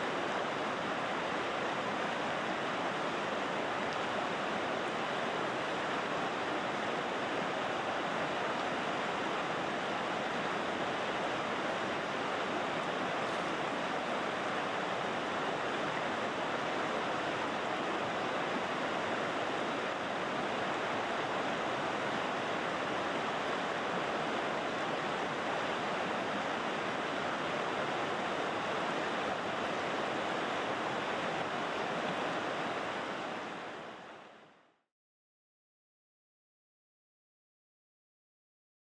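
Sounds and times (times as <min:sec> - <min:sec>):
river water rushing: 0:00.0 - 0:34.7.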